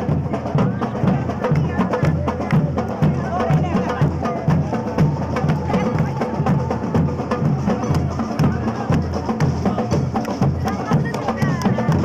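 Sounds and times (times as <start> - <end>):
deep bass drum: 0.0 - 12.0.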